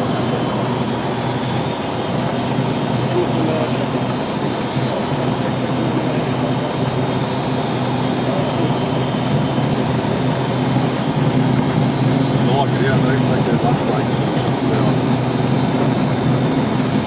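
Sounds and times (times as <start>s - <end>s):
propeller plane engine running: 0.0s - 17.0s.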